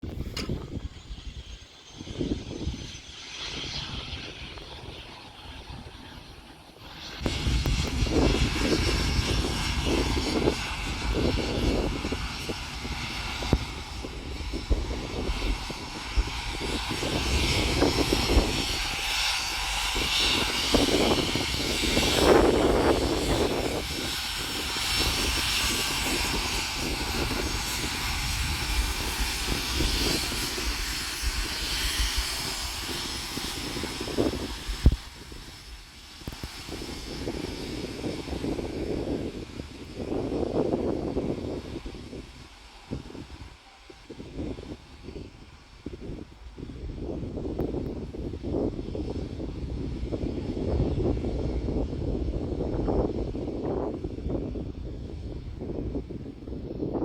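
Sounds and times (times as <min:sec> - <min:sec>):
jet engines landing: 0:00.0 - 0:57.0
low jet rumbling: 0:00.0 - 0:57.0.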